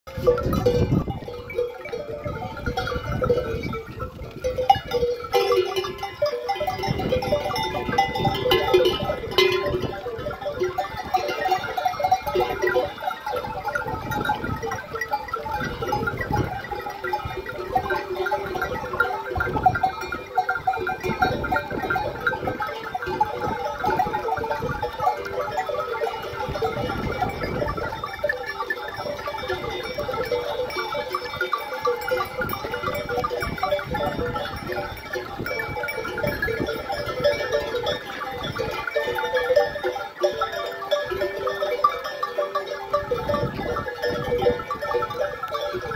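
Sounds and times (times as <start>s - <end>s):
sheep and goats bleating: 0.1s - 45.9s.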